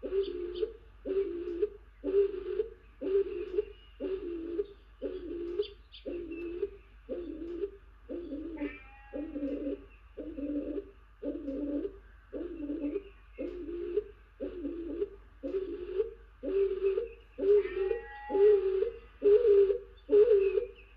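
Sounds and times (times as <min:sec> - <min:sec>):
dove cooing: 0:00.0 - 0:20.9.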